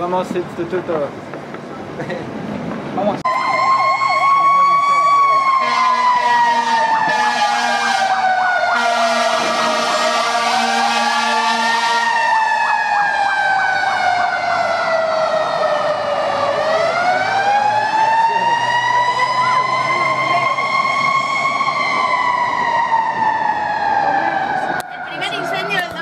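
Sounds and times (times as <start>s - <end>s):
fire truck siren wailing: 3.2s - 26.0s.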